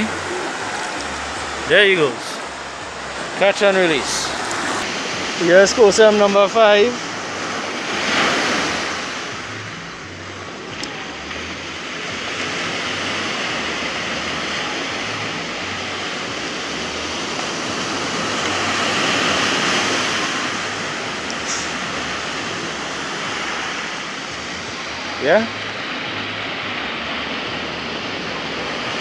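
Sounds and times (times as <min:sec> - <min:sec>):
small waves washing up shore: 0:00.0 - 0:29.0.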